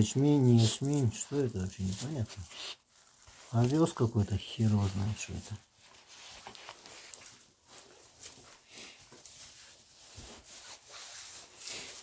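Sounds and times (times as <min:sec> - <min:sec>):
puppies rustling in straw: 0:00.0 - 0:12.0
fur brushing: 0:00.1 - 0:12.0.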